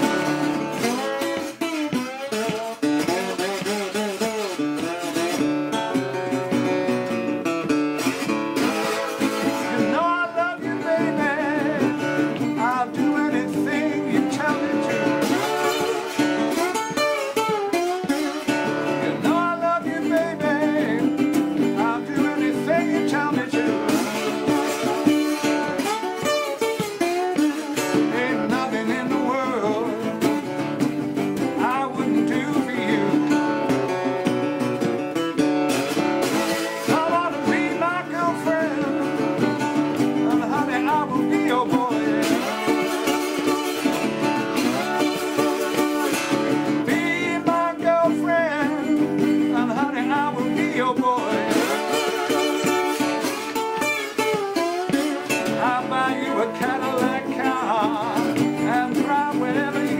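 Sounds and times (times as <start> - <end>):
man singing: 0.0 - 59.9
resonator guitar playing: 0.0 - 59.9.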